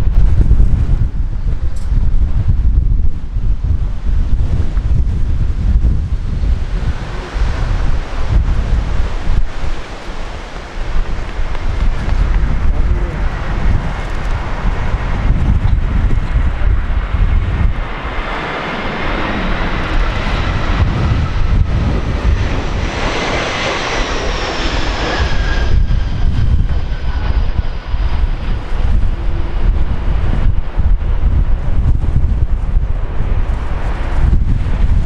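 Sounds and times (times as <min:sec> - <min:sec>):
jet airliner passing overhead: 0:00.0 - 0:35.0
wind buffeting microphone: 0:00.0 - 0:35.0.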